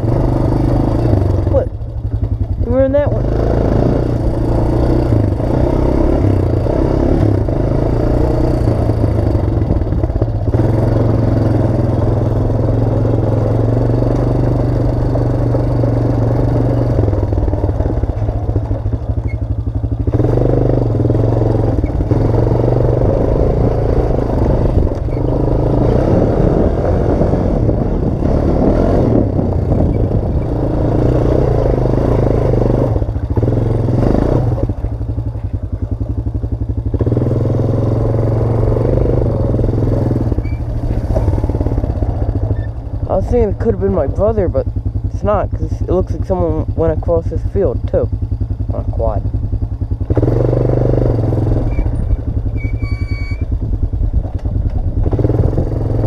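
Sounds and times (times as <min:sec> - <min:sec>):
quad bike engine running: 0:00.0 - 0:56.0
rattling of quad bike: 0:00.0 - 0:56.0.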